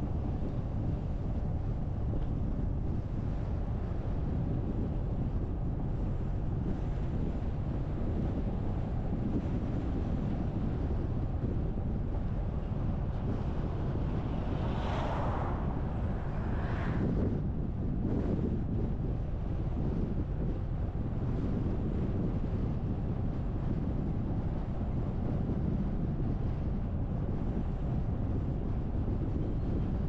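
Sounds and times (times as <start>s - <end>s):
car road noise: 0.0s - 30.0s
wind buffeting microphone: 0.0s - 30.0s.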